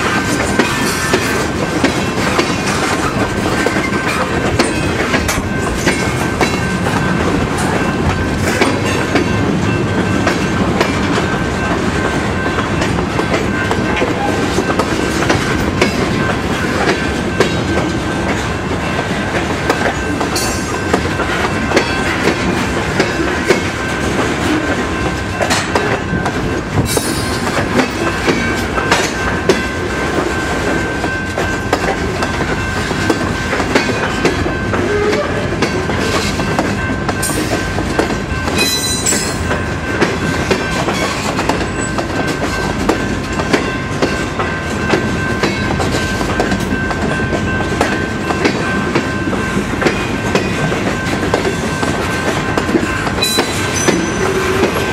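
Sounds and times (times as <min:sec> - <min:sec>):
train wheels clicking over rail joints: 0:00.0 - 0:54.9.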